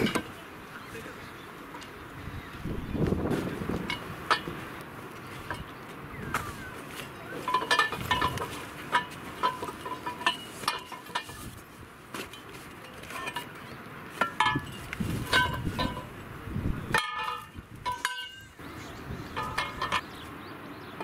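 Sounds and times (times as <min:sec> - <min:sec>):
metal poles clinking: 0:00.0 - 0:00.5, 0:03.0 - 0:18.7, 0:19.3 - 0:20.3.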